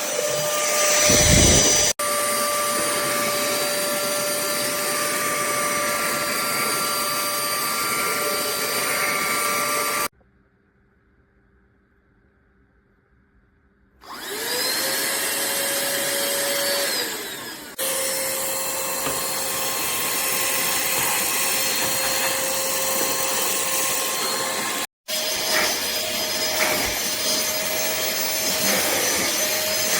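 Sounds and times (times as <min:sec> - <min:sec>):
handheld vacuum motor whine: 0:00.0 - 0:10.1, 0:14.0 - 0:29.9.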